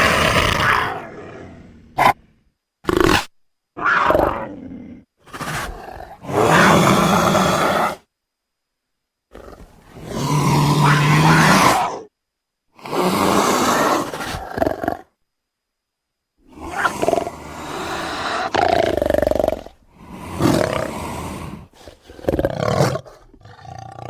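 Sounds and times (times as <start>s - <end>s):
wild cat roars and growls: 0.0s - 2.3s, 2.9s - 8.0s, 9.3s - 12.1s, 12.8s - 15.1s, 16.4s - 24.0s.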